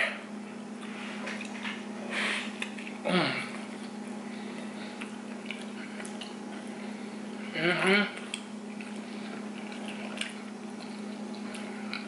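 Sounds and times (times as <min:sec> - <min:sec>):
steady low hum: 0:00.0 - 0:12.0
hum-like vocal sound: 0:02.0 - 0:12.0.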